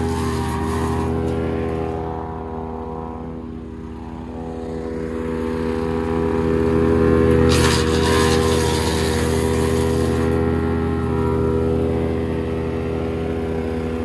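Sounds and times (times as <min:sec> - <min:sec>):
wood chipper engine running: 0:00.0 - 0:14.0.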